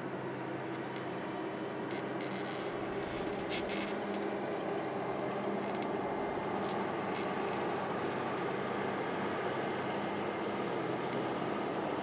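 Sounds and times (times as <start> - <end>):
diesel train engine hum: 0.0 - 12.0.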